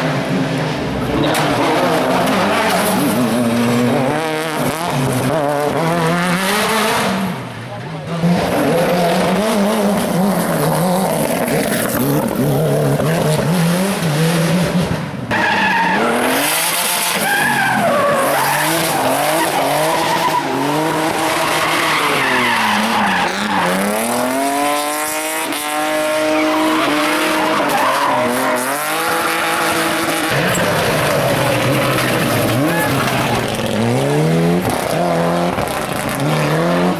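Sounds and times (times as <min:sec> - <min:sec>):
race car engines revving: 0:00.0 - 0:36.9.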